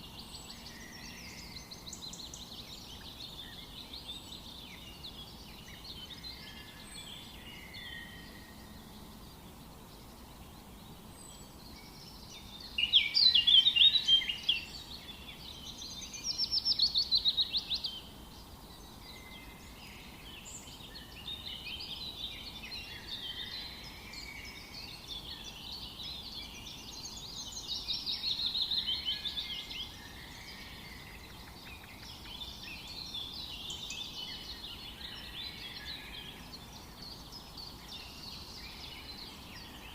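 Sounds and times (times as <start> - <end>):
wild birds singing: 0.0 - 39.9.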